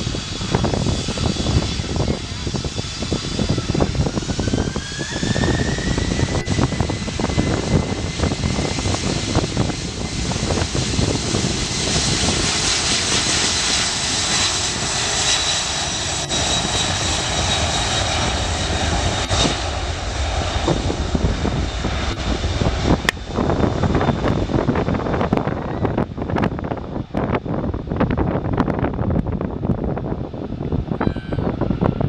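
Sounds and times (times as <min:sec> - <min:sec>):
jet airliner passing: 0:00.0 - 0:32.0
wind buffeting microphone: 0:00.0 - 0:32.0.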